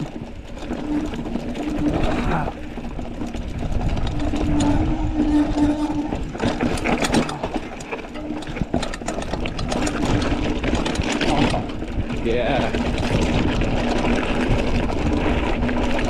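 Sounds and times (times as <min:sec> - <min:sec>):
wind on microphone: 0:00.0 - 0:07.6, 0:08.4 - 0:16.0
bike rattling over rocks: 0:00.0 - 0:16.0
buzzing hum: 0:00.0 - 0:16.0.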